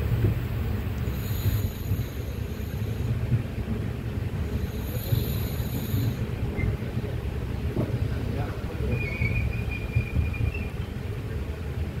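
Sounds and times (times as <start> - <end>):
train coach rumbling: 0.0 - 12.0.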